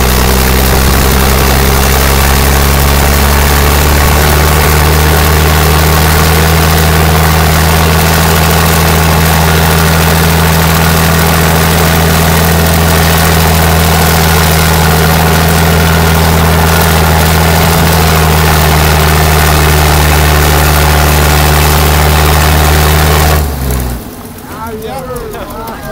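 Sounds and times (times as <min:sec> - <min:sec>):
diesel engine running under load: 0:00.0 - 0:25.9.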